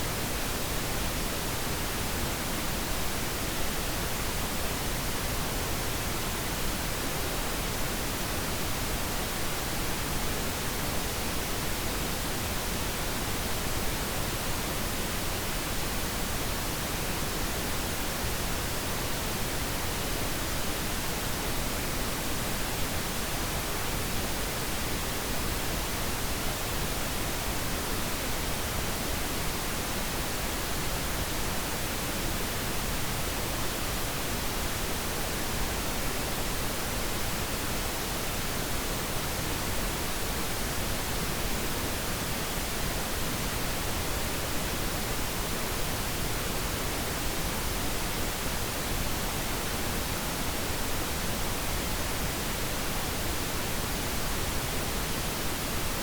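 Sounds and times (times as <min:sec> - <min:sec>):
steady pink noise: 0:00.0 - 0:56.0.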